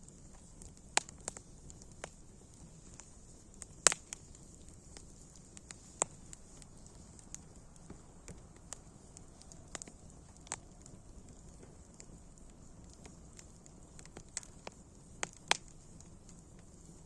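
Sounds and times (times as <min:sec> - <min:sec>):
faint steady hiss: 0:00.0 - 0:17.0
wood fire crackling: 0:00.0 - 0:17.0.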